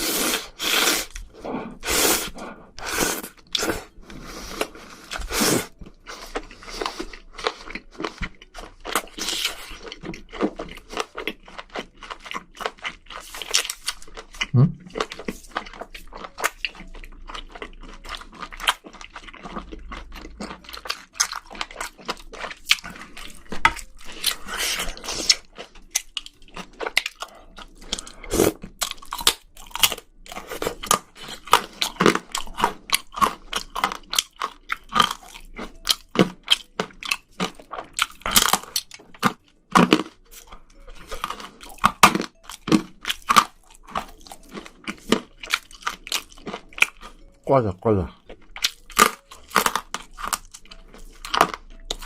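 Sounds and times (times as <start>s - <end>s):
wet chewing and crunching: 0.0s - 52.0s.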